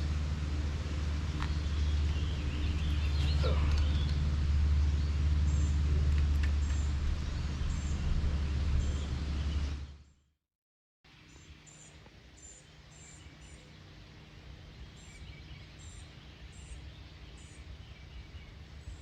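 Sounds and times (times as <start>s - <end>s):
low engine-like hum: 0.0s - 10.2s, 11.1s - 19.0s.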